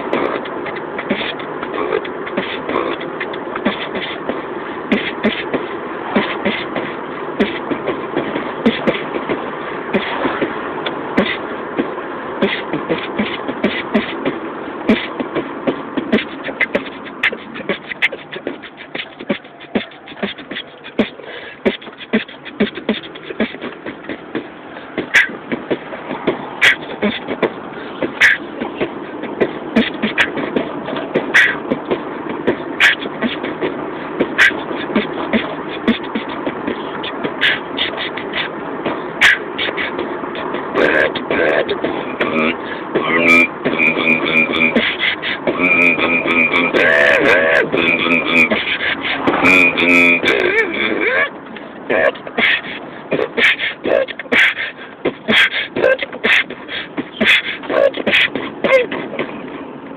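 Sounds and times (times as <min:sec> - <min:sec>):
man beatboxing: 0:00.0 - 0:59.9.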